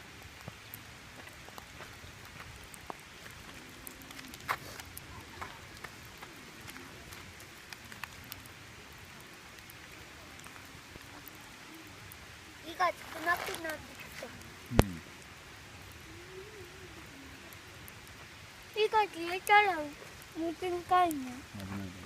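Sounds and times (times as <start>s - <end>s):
campfire crackling and popping: 0.0s - 22.0s
steady background hiss: 0.0s - 22.0s.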